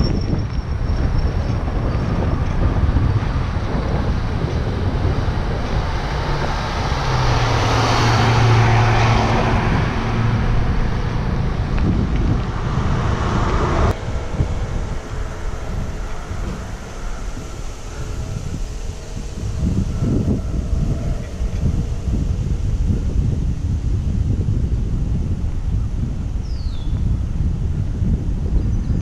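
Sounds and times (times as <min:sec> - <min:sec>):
wind buffeting microphone: 0:00.0 - 0:29.0
vehicle passing: 0:00.7 - 0:25.9.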